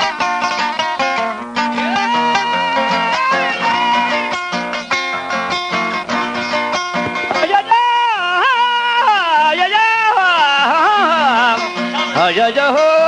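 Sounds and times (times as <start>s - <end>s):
small guitar strumming and plucking: 0.0s - 13.0s.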